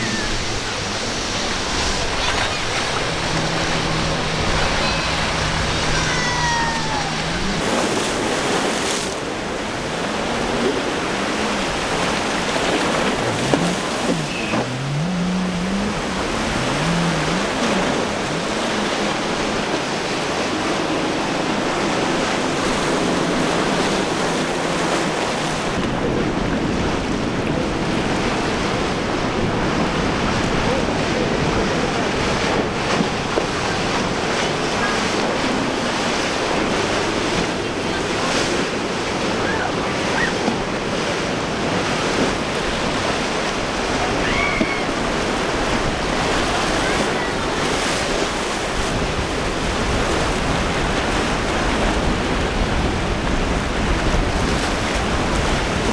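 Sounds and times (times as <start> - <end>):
outboard boat engines passing: 0.0 - 55.9
waves and churning surf: 0.0 - 55.9
wind buffeting microphone: 0.0 - 55.9.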